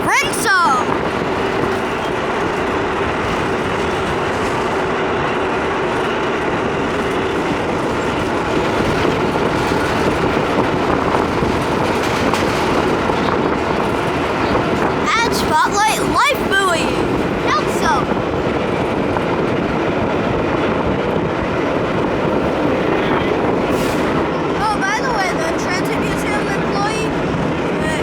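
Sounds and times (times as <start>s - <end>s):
subway car wheels on rail: 0.0s - 28.0s.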